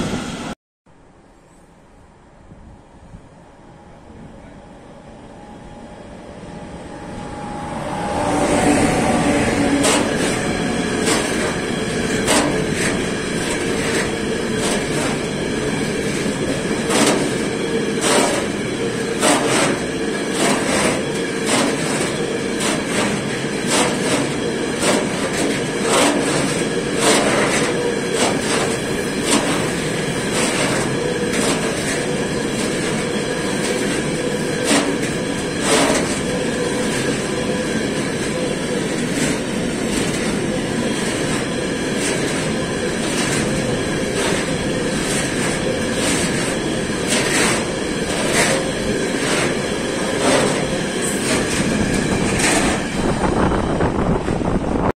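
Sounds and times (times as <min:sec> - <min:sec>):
train wheels rumbling on rails: 0:02.5 - 0:54.9.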